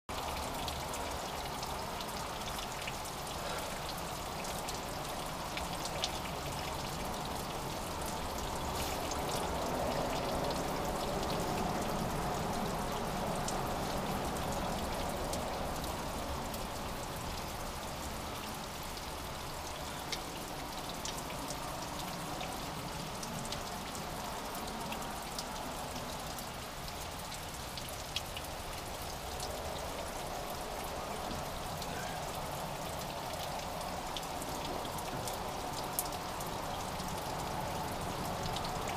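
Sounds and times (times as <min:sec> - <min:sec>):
water dripping down rock: 0:00.1 - 0:38.9.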